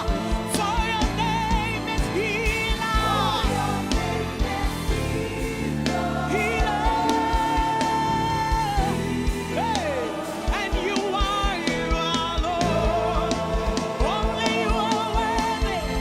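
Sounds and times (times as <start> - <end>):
gospel worship band: 0.0 - 16.0
steady drum beat: 0.0 - 16.0.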